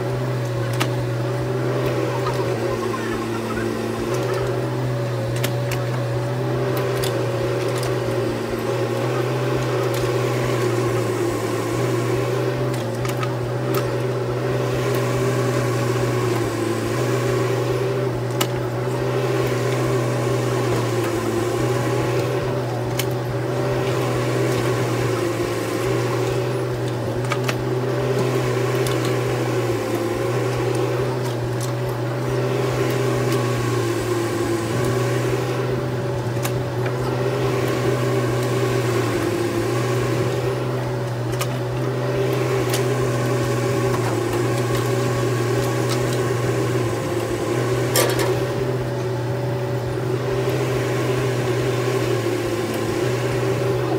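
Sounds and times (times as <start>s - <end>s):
mini excavator engine running: 0.0s - 53.9s.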